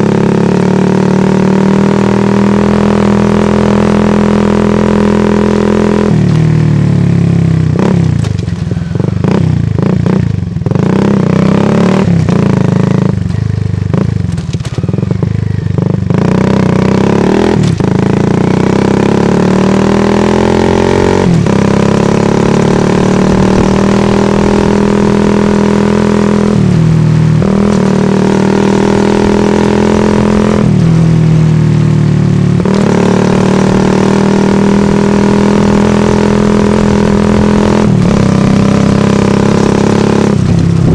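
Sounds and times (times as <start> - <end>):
motorcycle exhaust while riding: 0.0 - 40.9.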